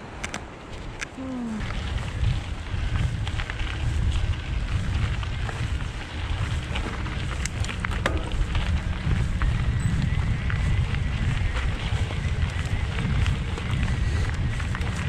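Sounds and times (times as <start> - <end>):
tyres on dirt trail: 0.0 - 15.0
wind rumbling on microphone: 0.0 - 15.0
bike rattling in sharp clicks: 0.1 - 15.0.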